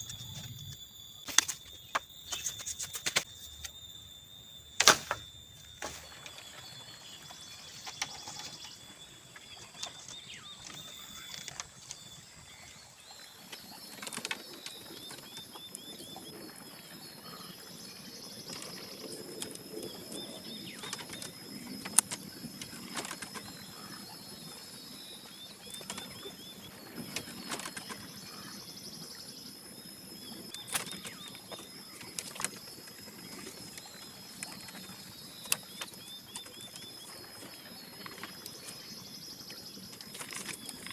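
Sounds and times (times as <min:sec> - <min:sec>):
bird chirps: 0:00.0 - 0:04.1, 0:04.7 - 0:40.9.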